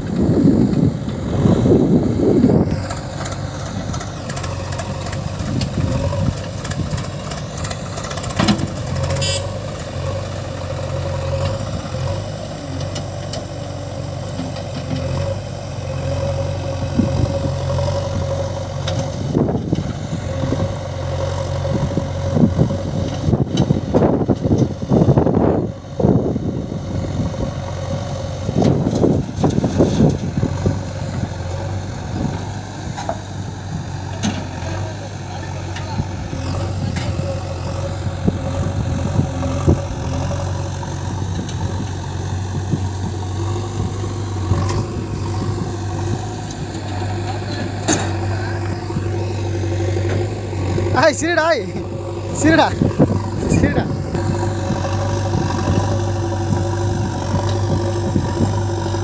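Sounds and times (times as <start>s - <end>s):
diesel engines running: 0.0s - 59.0s
loud low engine bursts: 0.0s - 59.0s.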